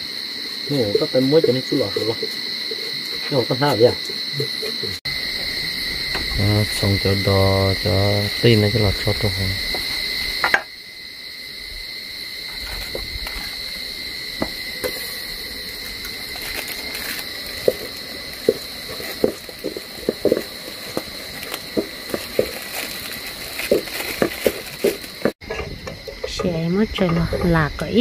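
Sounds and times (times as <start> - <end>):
high insect buzz: 0.0 - 28.0.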